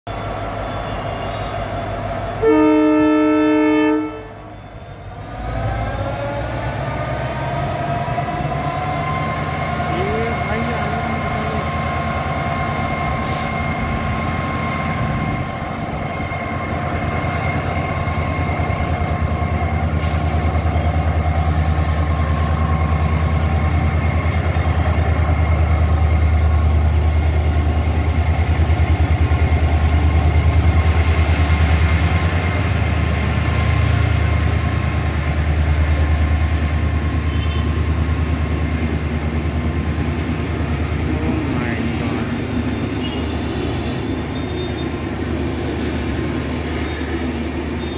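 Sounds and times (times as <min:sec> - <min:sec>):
locomotive diesel engine throbbing: 0:00.1 - 0:47.9
train coaches rolling past: 0:00.1 - 0:47.9.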